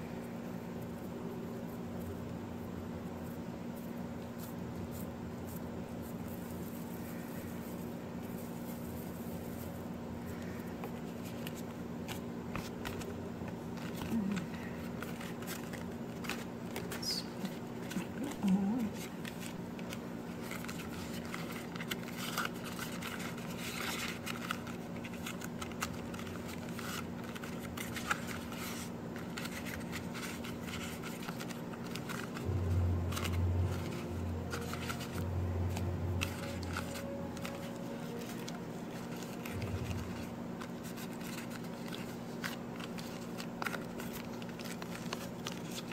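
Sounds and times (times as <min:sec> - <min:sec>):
steady low hum: 0:00.0 - 0:45.9
leaves rustling and crinkling: 0:00.1 - 0:45.9.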